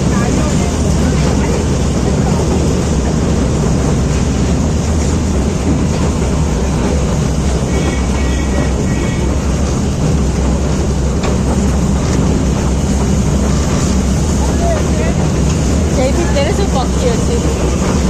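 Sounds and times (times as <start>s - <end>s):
toy train rumbling: 0.0s - 18.0s.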